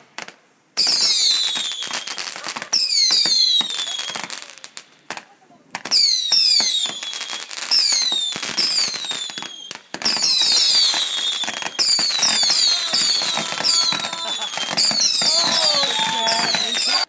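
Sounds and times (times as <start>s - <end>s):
fireworks crackling and popping: 0.0s - 17.0s
whistling fireworks: 0.0s - 17.0s.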